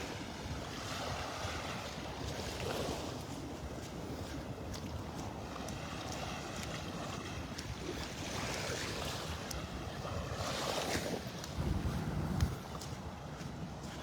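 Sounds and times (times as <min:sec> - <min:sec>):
waves washing on beach: 0:00.0 - 0:14.0
wind rumbling on microphone: 0:00.0 - 0:14.0.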